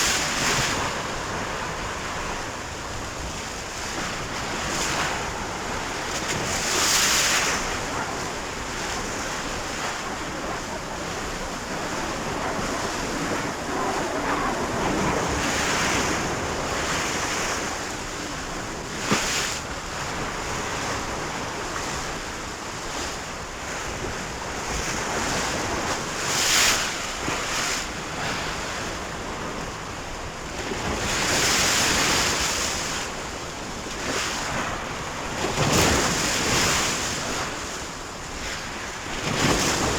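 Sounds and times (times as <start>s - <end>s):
sea waves surging: 0.0s - 39.9s
wind: 0.0s - 39.9s.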